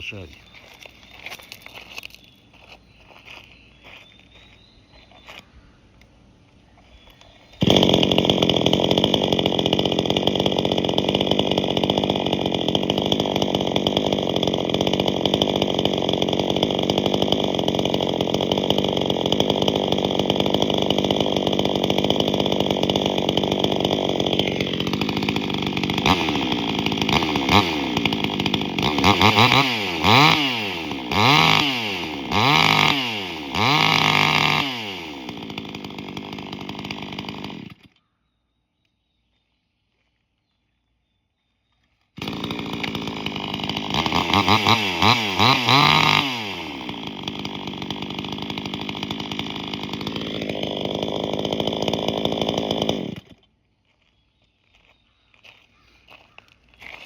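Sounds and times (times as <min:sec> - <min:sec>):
chainsaw revving and idling: 0:00.0 - 0:03.4, 0:06.9 - 0:38.0, 0:42.1 - 0:53.5, 0:56.0 - 0:57.0.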